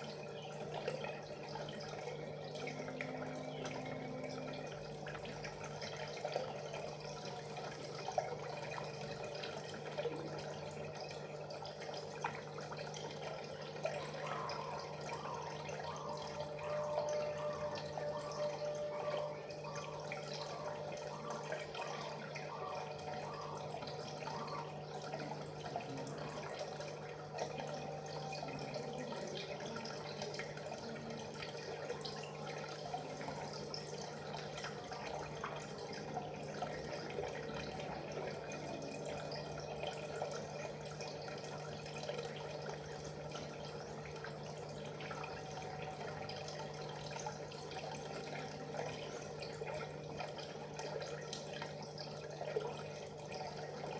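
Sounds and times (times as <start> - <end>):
water trickling and dripping: 0.0 - 53.9.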